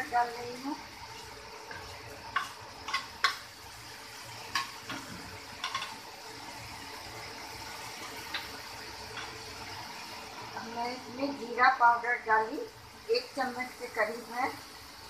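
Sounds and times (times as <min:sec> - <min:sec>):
paste frying in oil sizzling: 0:00.0 - 0:15.0.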